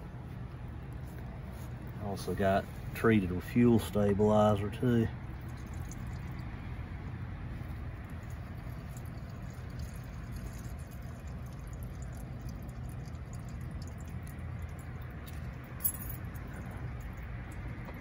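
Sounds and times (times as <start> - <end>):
fuel trickling into tank: 0.8 - 18.0.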